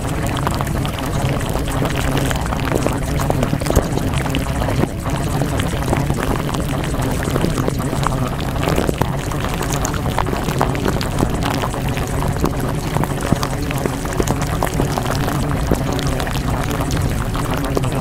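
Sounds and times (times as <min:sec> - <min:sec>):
small crackles and pops: 0:00.0 - 0:18.0
steady rushing water-like noise: 0:00.0 - 0:18.0.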